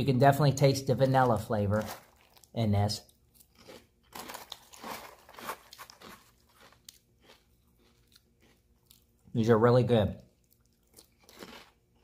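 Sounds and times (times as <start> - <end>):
cereal crunching while chewed: 1.0 - 9.3, 10.2 - 12.0.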